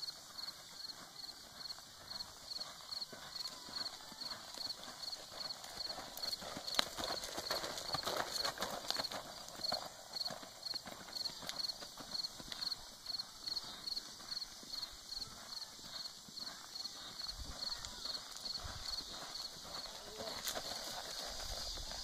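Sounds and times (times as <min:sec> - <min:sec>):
hoofbeats on gravel: 0:00.0 - 0:22.0.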